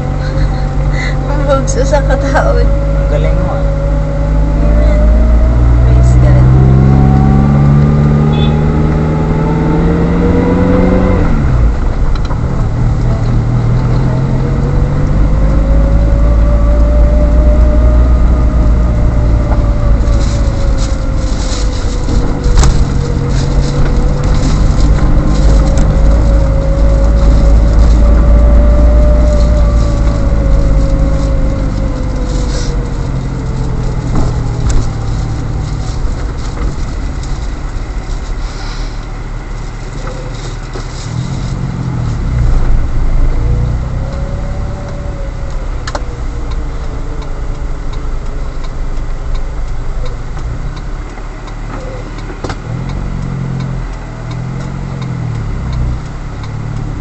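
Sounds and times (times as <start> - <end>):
car engine and road noise: 0.0 - 57.0
engine whine rising and falling: 0.0 - 57.0.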